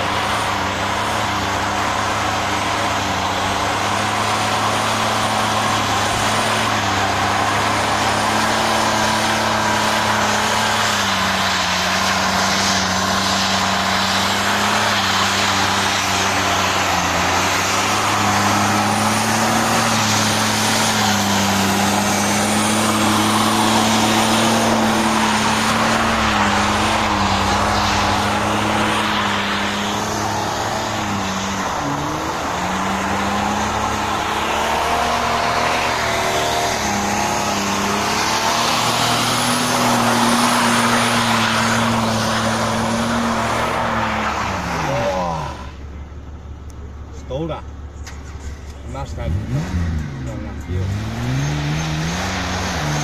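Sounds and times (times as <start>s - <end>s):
car engine at high revs: 0.0s - 53.0s
tyres screeching: 0.0s - 53.0s.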